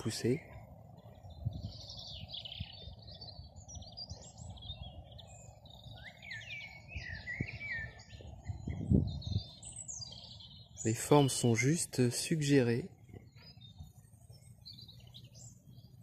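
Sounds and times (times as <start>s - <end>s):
low outdoor rumble: 0.0s - 16.0s
songbirds singing: 0.0s - 16.0s.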